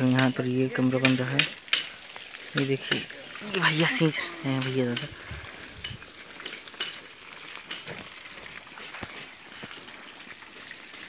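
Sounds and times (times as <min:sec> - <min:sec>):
hose water spraying on bricks: 0:00.0 - 0:11.0.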